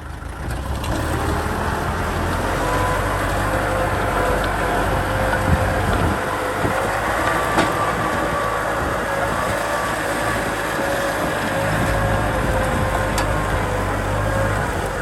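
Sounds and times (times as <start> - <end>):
mechanical whine: 0.0 - 15.0
tractor diesel engine running: 0.0 - 15.0.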